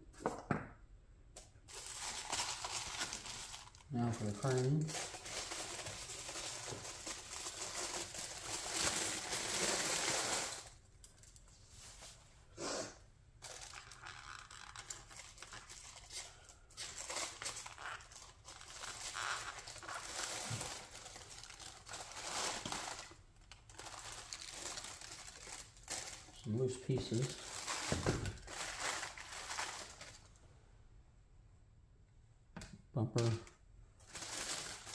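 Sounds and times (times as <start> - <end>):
packaging crinkling and rustling: 1.7 - 12.2, 13.4 - 30.4, 34.0 - 34.9.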